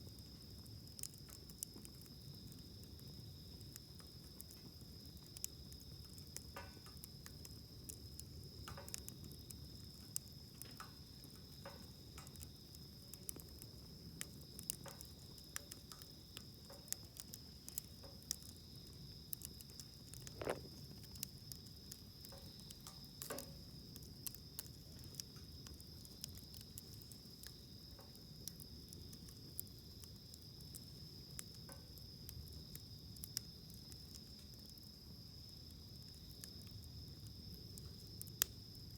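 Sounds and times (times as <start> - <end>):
campfire wood crackling: 0.0 - 38.9
insects chirping: 0.0 - 38.9.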